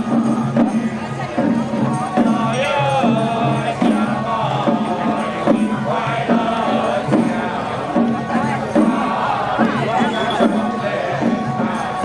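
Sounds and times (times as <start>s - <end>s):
procession music: 1.9s - 12.0s.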